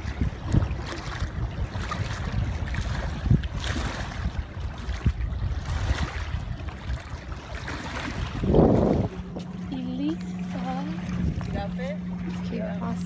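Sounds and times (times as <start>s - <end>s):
small waves washing: 0.0s - 13.0s
wind buffeting microphone: 0.0s - 13.0s.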